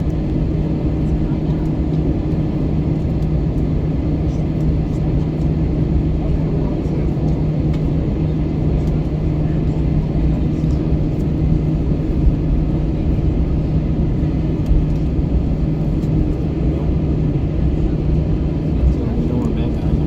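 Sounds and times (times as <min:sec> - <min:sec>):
aircraft cabin engine rumble: 0:00.0 - 0:20.0.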